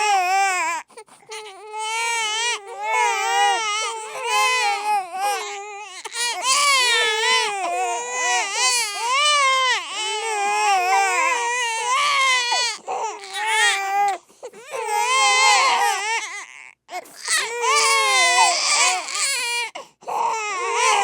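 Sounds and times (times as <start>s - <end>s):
babies crying: 0.0s - 16.6s, 17.2s - 21.0s.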